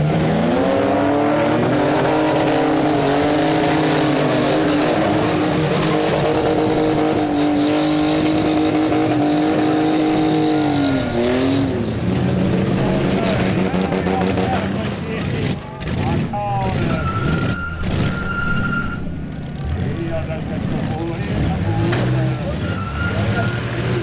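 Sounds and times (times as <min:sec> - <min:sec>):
car engine revving hard: 0:00.0 - 0:18.5, 0:19.3 - 0:24.0.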